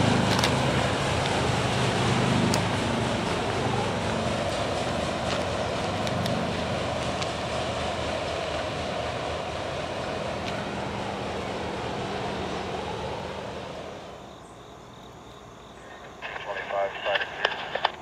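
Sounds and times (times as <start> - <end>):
freight train rolling on rails: 0.0 - 16.2.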